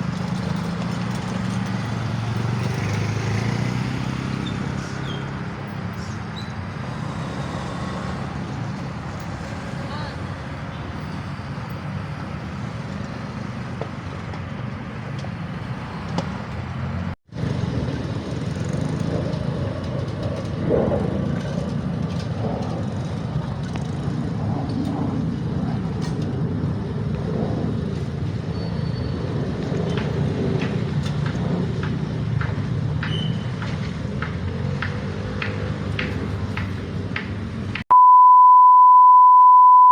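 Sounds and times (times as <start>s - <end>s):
low rumble of vehicles: 0.0s - 37.9s.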